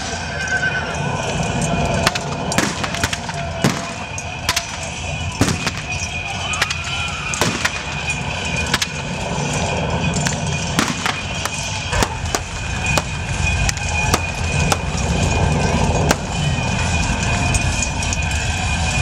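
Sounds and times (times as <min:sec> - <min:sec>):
low rumble: 0:00.0 - 0:19.0
sharp cracks and clashes: 0:00.0 - 0:19.0.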